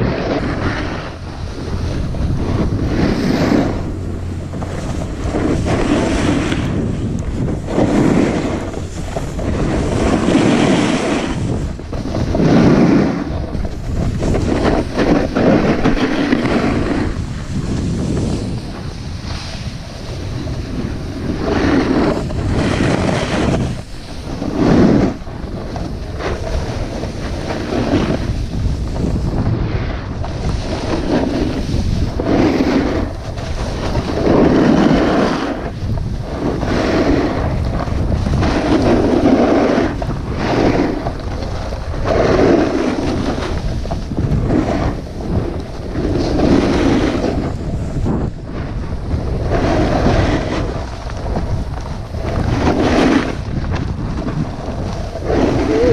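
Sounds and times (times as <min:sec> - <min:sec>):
snowboard scraping on snow: 0:00.0 - 0:55.9
wind on microphone: 0:00.0 - 0:55.9.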